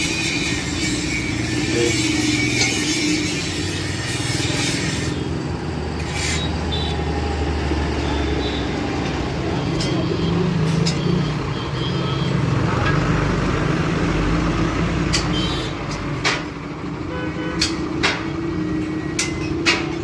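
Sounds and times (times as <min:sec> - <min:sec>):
mechanical workshop noise: 0:00.0 - 0:11.8, 0:12.4 - 0:16.8, 0:17.6 - 0:20.0.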